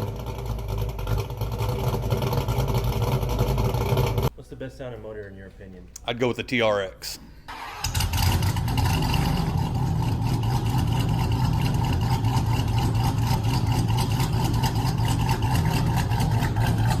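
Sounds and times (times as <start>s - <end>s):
truck engine idling: 0.0s - 4.3s, 7.5s - 17.0s.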